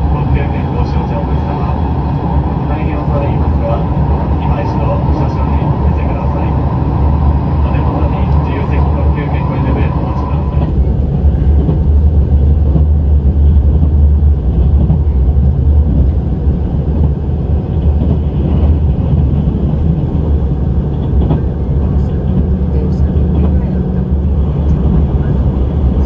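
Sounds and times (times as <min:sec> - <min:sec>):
rail noise: 0:00.0 - 0:26.0
train rumbling: 0:00.0 - 0:26.0.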